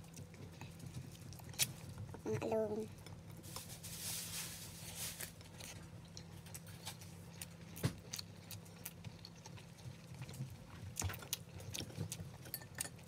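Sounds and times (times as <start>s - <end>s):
chewing: 0.0s - 3.7s, 5.2s - 13.0s.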